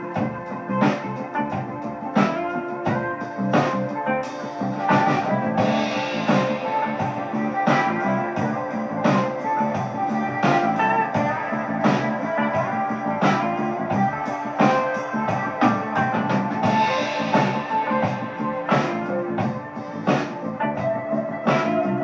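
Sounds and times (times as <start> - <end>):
guitar-led rock music: 0.0 - 22.0
steady drum beat: 0.0 - 22.0.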